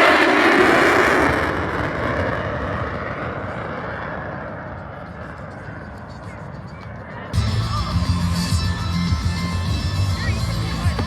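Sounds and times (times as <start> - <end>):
jet flying past: 0.0 - 9.6.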